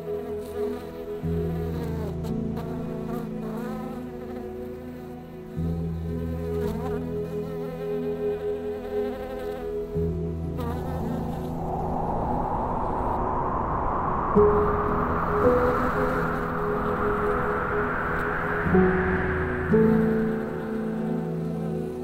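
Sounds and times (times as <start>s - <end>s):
bee buzzing: 0.0s - 12.0s, 15.4s - 22.0s.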